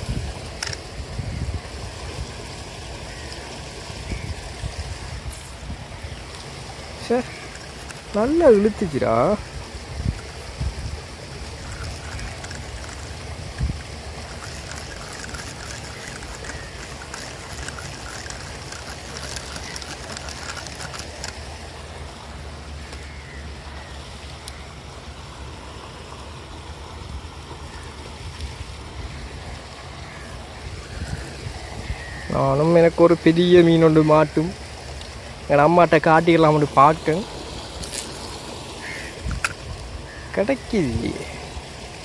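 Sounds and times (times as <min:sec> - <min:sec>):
faint hiss: 0:00.0 - 0:42.0.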